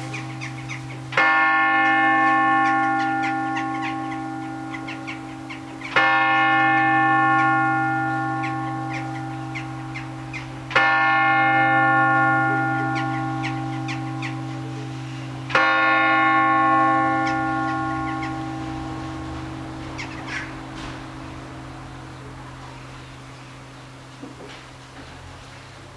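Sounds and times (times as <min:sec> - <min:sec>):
church bell striking: 0:00.0 - 0:24.9.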